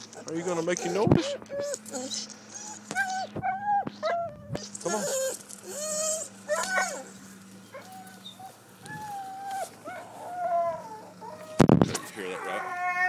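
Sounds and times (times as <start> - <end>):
dog whining: 0.0 - 13.0.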